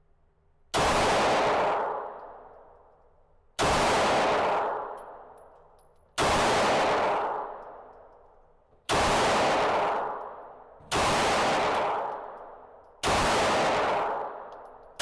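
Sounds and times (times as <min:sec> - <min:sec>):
pistol shots with echo: 0:00.7 - 0:03.0, 0:03.6 - 0:15.0.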